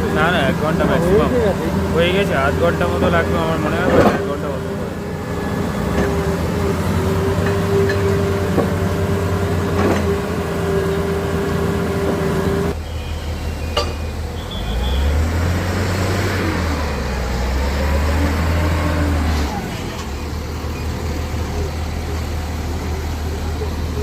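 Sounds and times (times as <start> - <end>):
deep engine rumble: 0.0 - 24.0
vehicle engines running: 0.0 - 24.0.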